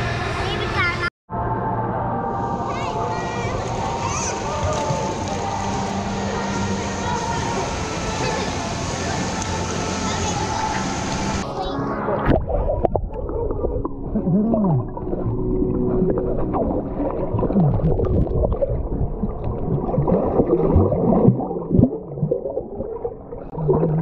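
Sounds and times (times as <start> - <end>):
underwater churning and bubbles: 2.4 - 24.0.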